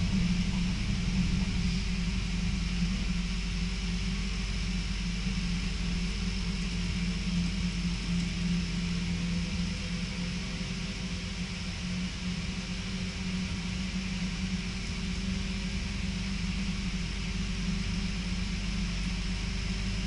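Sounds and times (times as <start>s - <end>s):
train wheels rumbling on rails: 0.0s - 19.3s
constant low hum: 0.0s - 20.0s.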